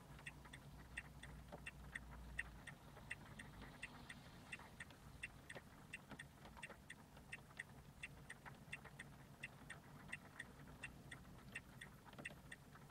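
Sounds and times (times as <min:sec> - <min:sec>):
mechanical tick-tock: 0:00.0 - 0:12.9.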